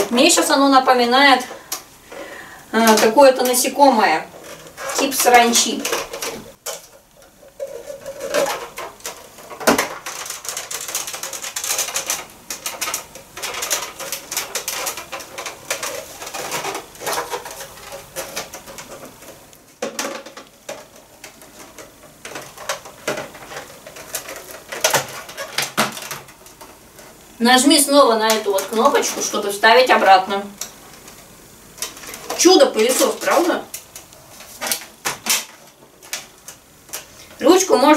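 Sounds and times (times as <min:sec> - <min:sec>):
plastic parts clicking and rattling: 0:00.0 - 0:37.9.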